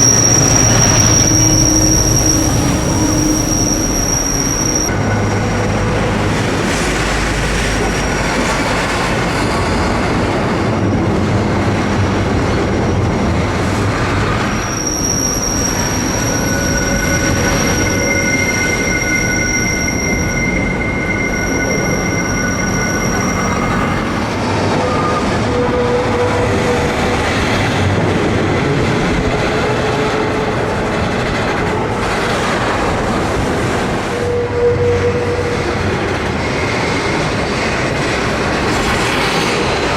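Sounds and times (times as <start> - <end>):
train wheels squealing: 0.0 - 10.8, 13.2 - 39.9
train rumbling: 0.0 - 39.9.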